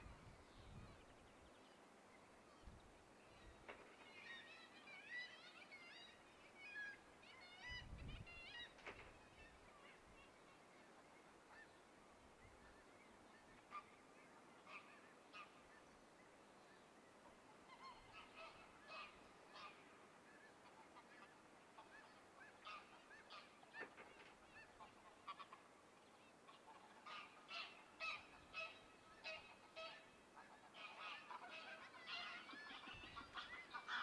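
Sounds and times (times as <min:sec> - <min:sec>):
background hiss: 0:00.0 - 0:34.0
faint bird calls: 0:02.4 - 0:34.0.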